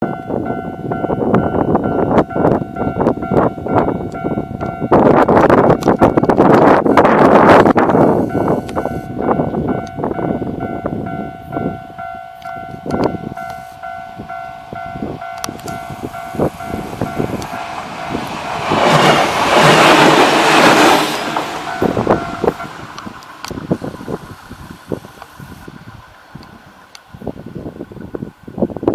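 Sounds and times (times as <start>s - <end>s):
electric train passing: 0.0s - 28.9s.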